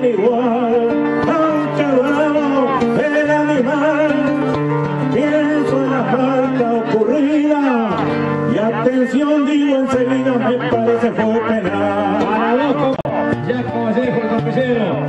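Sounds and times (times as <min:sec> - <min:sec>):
acoustic guitar: 0:00.0 - 0:15.0
man singing folk song: 0:00.0 - 0:15.0.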